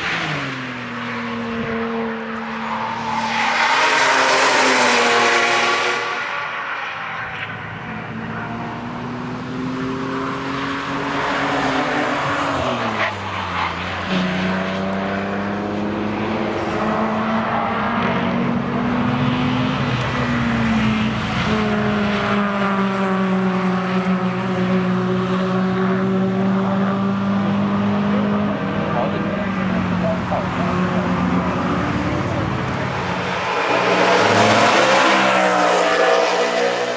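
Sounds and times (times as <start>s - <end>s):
race car engines passing: 0.0s - 36.9s.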